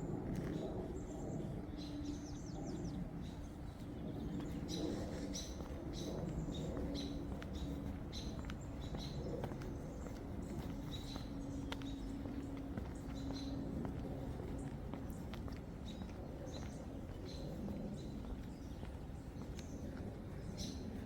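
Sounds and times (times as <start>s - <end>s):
small birds chirping: 0.3s - 21.0s.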